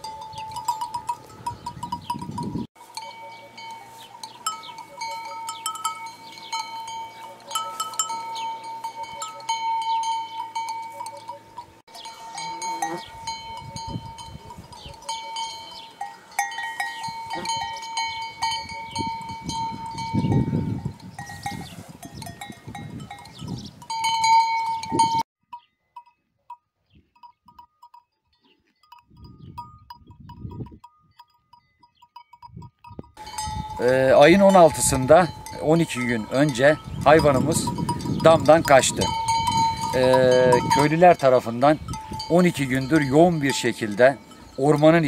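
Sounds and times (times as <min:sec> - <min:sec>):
livestock bells clanking: 0:00.0 - 0:45.0.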